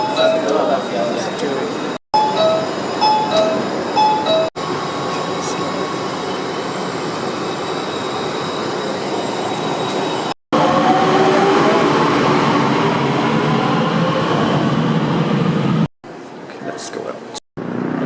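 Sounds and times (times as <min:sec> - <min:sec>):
metro train rumble: 0:00.0 - 0:18.0.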